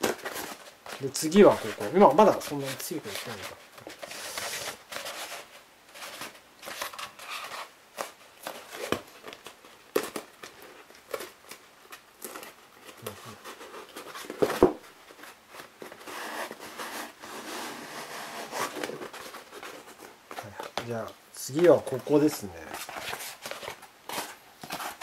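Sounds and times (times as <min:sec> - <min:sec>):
foam rustling and scraping: 0:00.0 - 0:25.0.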